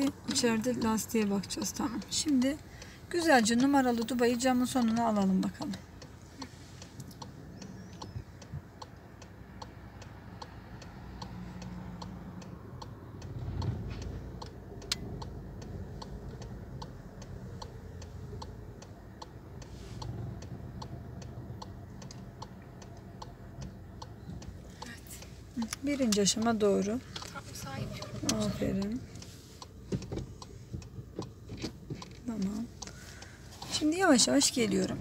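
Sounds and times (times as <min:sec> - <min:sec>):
car engine idling: 0:00.0 - 0:35.0
turn signal ticking: 0:00.0 - 0:35.0.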